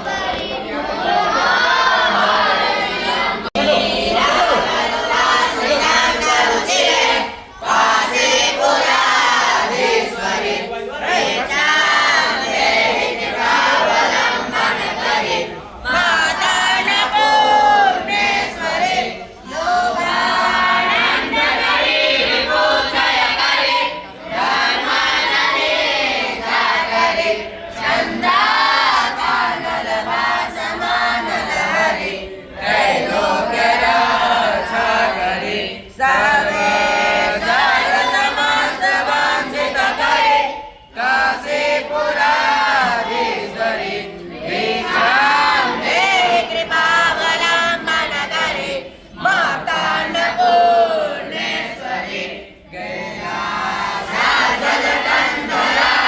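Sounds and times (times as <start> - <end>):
group singing a chant in unison: 0.0 - 56.0.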